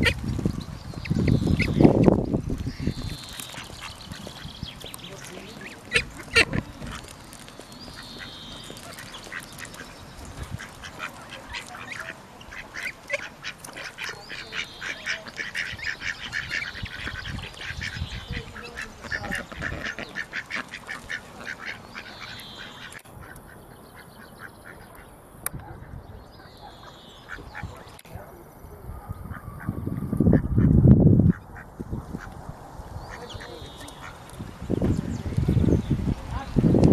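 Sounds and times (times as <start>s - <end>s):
ducks quacking: 0.0s - 28.0s, 29.0s - 32.4s, 33.0s - 34.4s.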